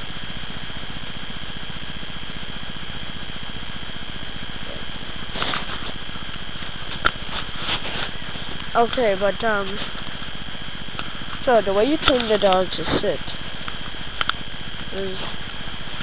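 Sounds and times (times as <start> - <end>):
steady hiss with high whine: 0.0 - 16.0.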